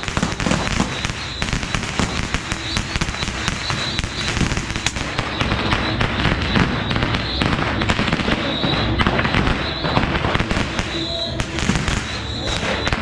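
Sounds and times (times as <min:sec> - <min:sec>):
firecrackers popping and crackling: 0:00.0 - 0:13.0
rocket whistles: 0:00.0 - 0:13.0.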